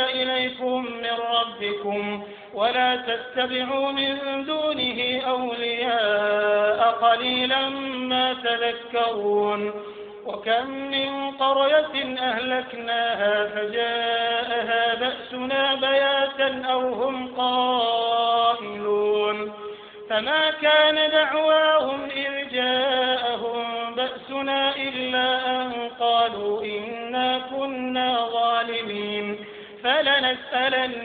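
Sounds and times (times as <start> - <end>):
man chanting recitation: 0.0 - 31.0.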